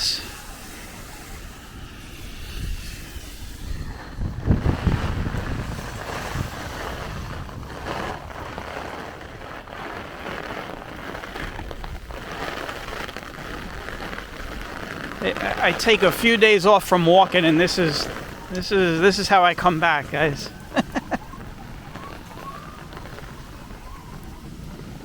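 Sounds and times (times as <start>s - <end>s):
gusty wind buffeting microphone: 0.0s - 25.0s
rain falling: 0.0s - 25.0s.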